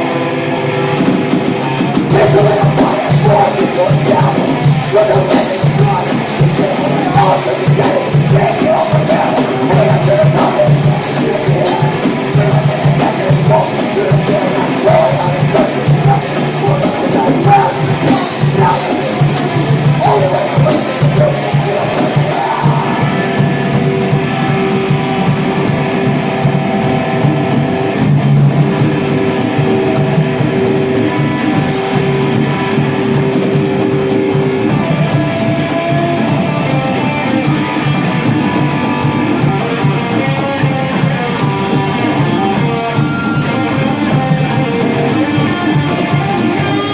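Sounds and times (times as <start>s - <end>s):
electric guitars: 0.0s - 46.9s
rock band playing live: 0.0s - 46.9s.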